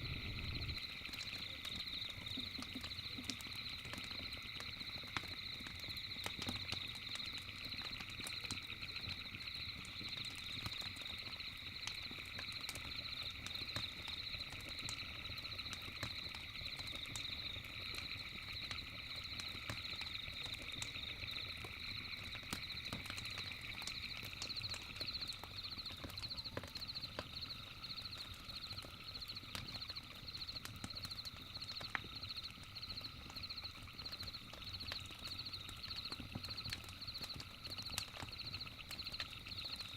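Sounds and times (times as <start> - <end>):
campfire crackling: 0.0 - 39.9
night insects chirping: 0.0 - 39.9.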